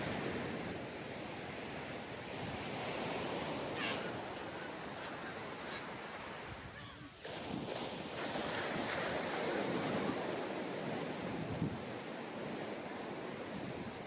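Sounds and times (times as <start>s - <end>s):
surf washing onto beach: 0.0s - 14.0s.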